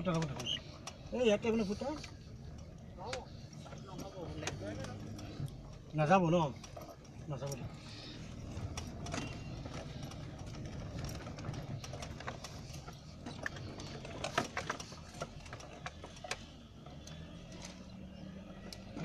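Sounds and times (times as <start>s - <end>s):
clicks and rattles: 0.0s - 17.9s
car engine running: 0.0s - 19.0s.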